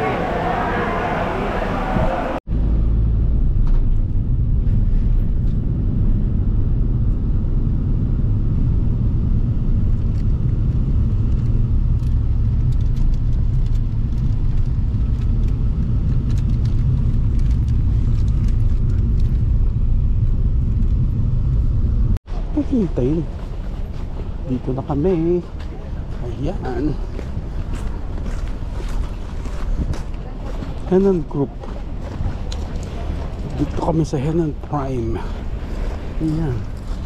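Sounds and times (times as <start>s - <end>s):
road and engine rumble inside van: 1.4s - 34.1s.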